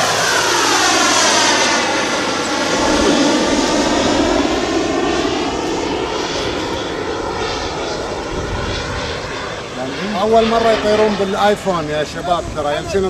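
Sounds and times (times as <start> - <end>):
model plane motor droning: 0.0 - 13.0.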